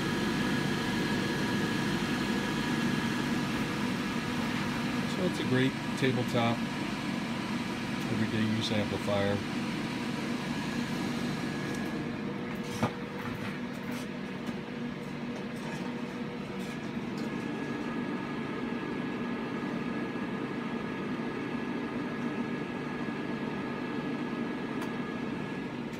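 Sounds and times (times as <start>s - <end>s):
blower whir and hum: 0.0s - 25.9s.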